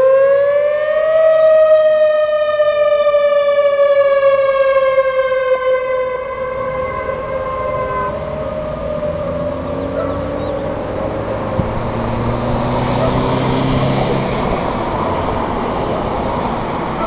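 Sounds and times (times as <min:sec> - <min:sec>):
warning siren wail: 0:00.0 - 0:17.0.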